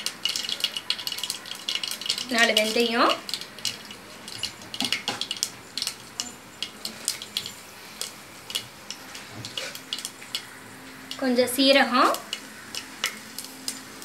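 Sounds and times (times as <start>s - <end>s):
oil sizzling: 0.0s - 14.0s
seeds popping in hot oil: 0.0s - 14.0s.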